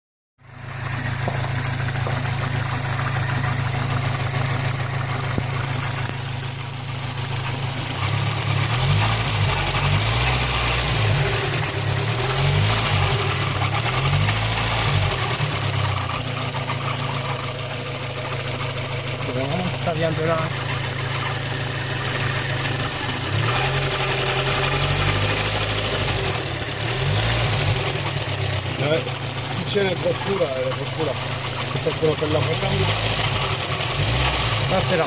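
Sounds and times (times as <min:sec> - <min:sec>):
car engine idling: 0:00.4 - 0:35.0.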